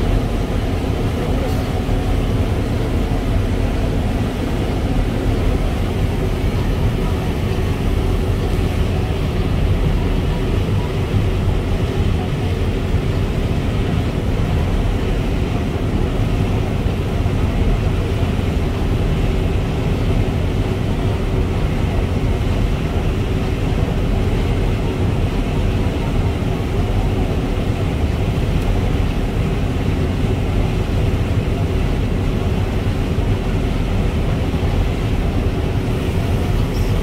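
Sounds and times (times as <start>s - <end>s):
combine harvester drone: 0.0s - 37.0s.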